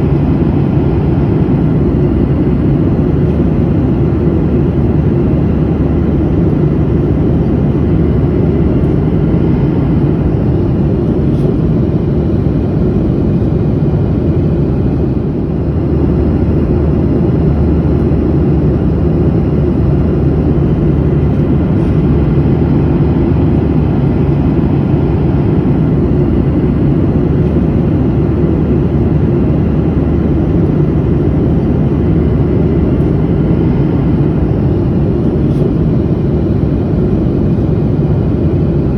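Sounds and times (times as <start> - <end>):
airplane cabin engine roar: 0.0 - 38.9.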